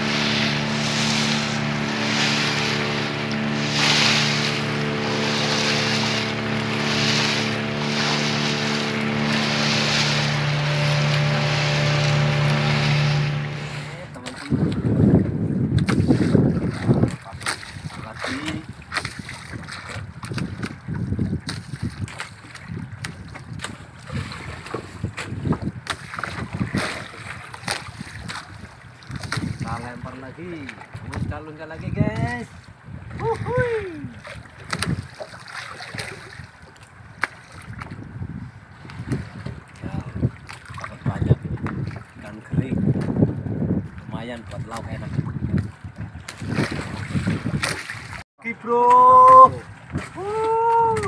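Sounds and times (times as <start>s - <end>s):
wind buffeting microphone: 0.0s - 48.2s, 49.2s - 51.0s
boat motor running: 0.0s - 51.0s
water rushing along hull: 0.0s - 51.0s.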